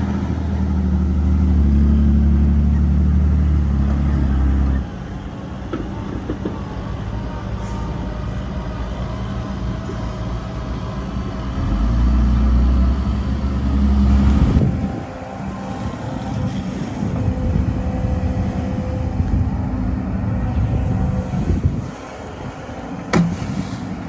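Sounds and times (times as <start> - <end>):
heavy diesel engine droning: 0.0 - 24.0.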